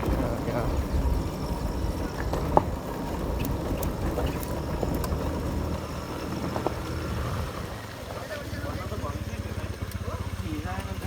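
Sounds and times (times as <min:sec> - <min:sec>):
vehicle rumbling: 0:00.0 - 0:11.0.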